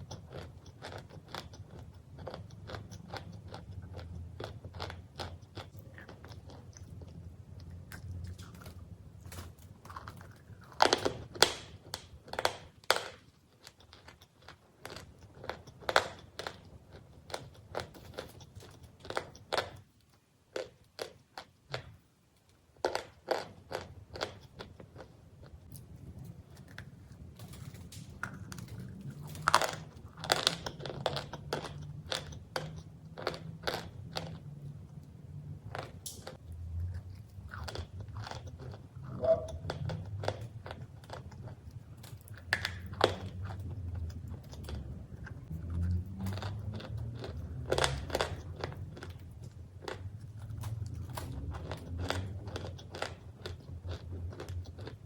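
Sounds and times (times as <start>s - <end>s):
crunchy cookies being chewed: 0.0s - 55.0s.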